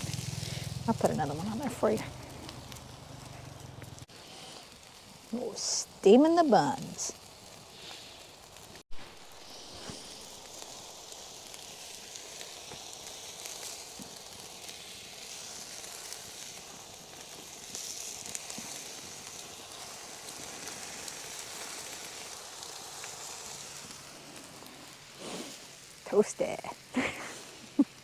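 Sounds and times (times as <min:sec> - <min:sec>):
campfire crackling: 0:00.0 - 0:28.0
food sizzling on griddle: 0:00.0 - 0:28.0.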